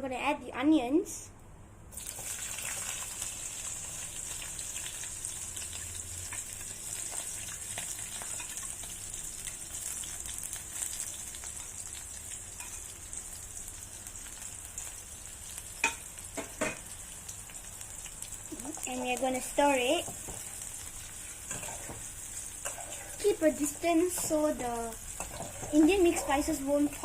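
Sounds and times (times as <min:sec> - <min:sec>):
onions sizzling in oil: 0:01.9 - 0:27.0.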